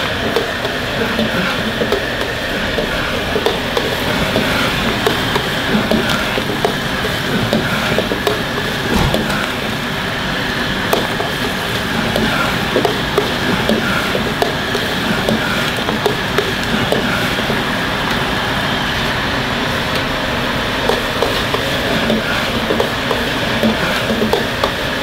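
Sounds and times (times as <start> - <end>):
wok burner rushing: 0.0 - 25.0.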